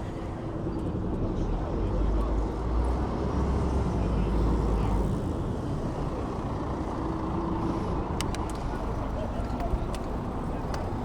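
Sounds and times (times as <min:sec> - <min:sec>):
city road traffic: 0:00.0 - 0:11.0.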